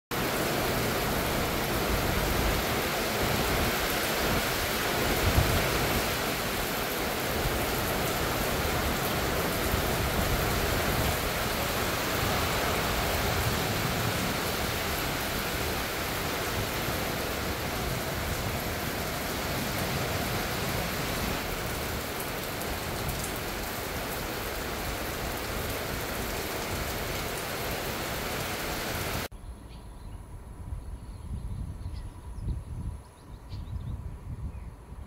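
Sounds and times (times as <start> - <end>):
heavy rain hiss: 0.1 - 29.3.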